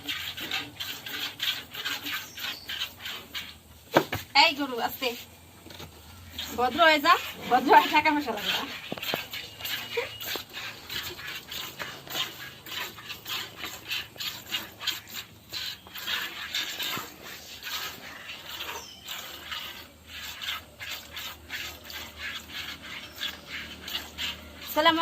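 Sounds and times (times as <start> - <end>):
milk squirting into a pail: 0.0 - 4.7, 5.6 - 25.0.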